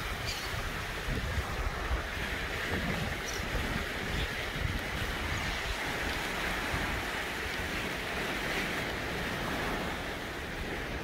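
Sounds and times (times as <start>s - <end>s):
surf washing onto sand: 0.0s - 11.0s
wind rumble on microphone: 0.0s - 11.0s.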